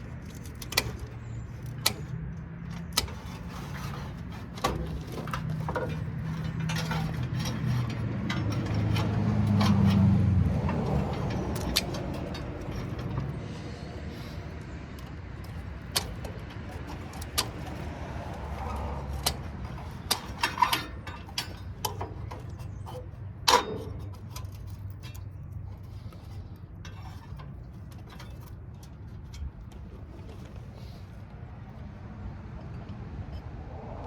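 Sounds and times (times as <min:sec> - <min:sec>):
metal parts clicking and clanking: 0:00.0 - 0:31.2.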